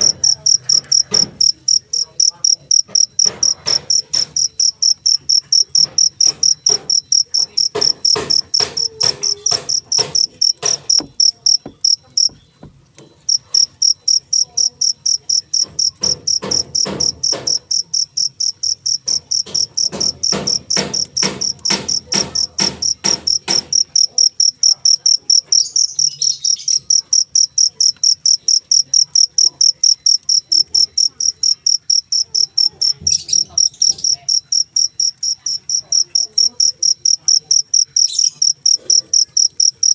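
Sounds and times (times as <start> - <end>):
cricket chirping: 0.0 - 12.7, 13.3 - 39.9.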